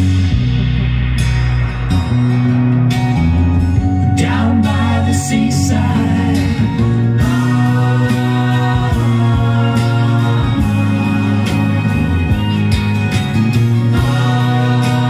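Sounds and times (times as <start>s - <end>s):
instrumental music from a record: 0.0s - 15.0s.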